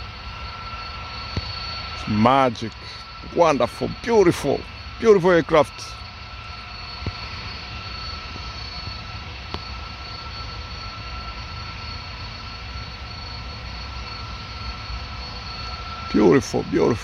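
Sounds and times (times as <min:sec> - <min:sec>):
distant jet engines whining: 0:00.0 - 0:17.0.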